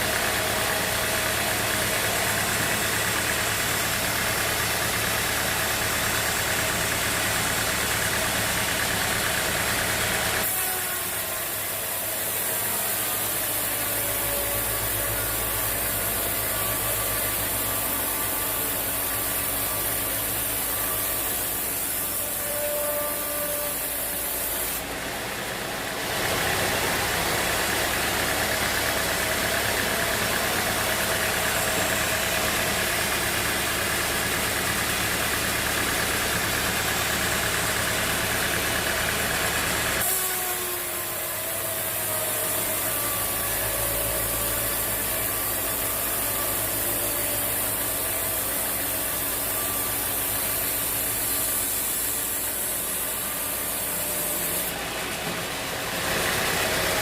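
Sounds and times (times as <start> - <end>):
saw blade cutting: 0.0 - 57.0
sawmill engine running: 0.0 - 57.0.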